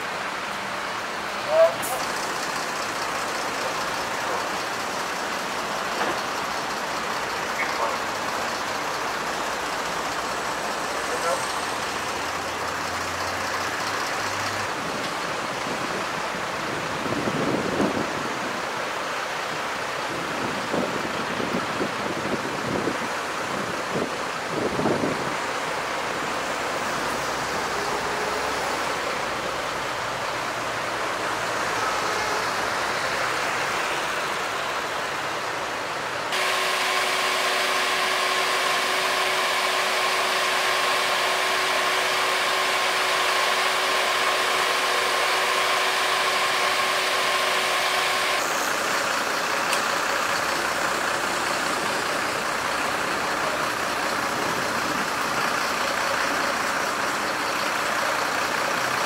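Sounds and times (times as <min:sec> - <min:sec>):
vehicle engines idling: 0:00.0 - 0:59.0.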